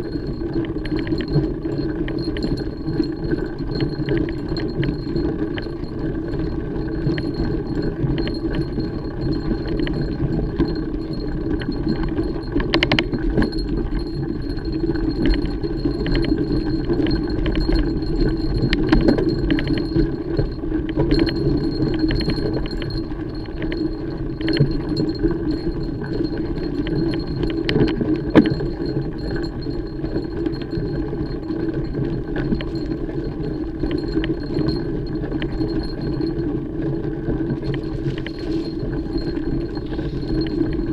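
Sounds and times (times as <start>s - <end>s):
chain and frame rattling: 0.0s - 40.9s.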